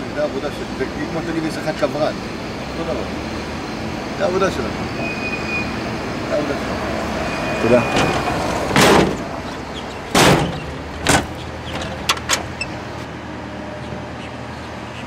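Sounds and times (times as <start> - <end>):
excavator engine rumble: 0.0 - 15.0.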